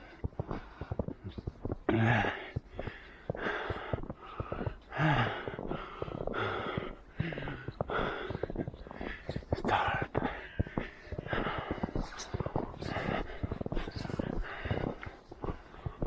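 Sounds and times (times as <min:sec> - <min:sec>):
footsteps crunching in snow: 0:00.0 - 0:16.0
person breathing hard: 0:02.2 - 0:16.0.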